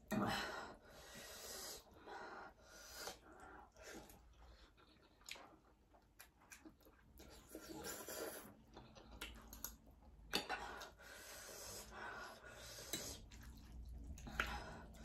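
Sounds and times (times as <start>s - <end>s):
noodles slurped and chewed: 2.9s - 15.0s.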